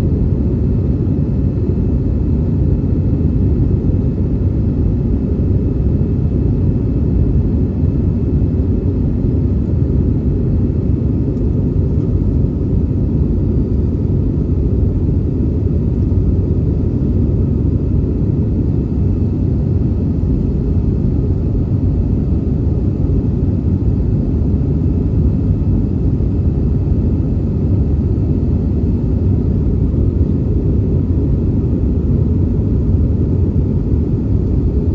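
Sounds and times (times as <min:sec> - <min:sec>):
aircraft cabin engine drone: 0:00.0 - 0:34.9.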